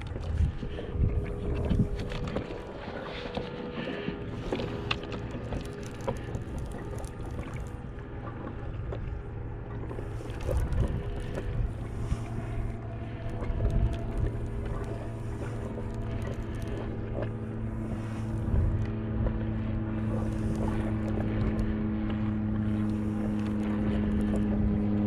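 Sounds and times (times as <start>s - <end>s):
steady hum: 0.0s - 25.0s
water splashing against hull: 0.0s - 25.0s.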